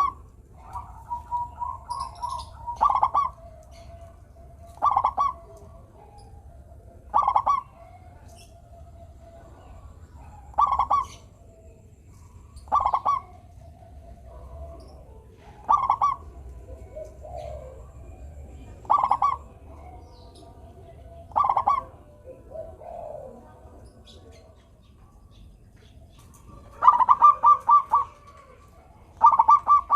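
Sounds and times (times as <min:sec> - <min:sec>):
dove staccato cooing: 0:00.0 - 0:24.6, 0:25.9 - 0:29.9.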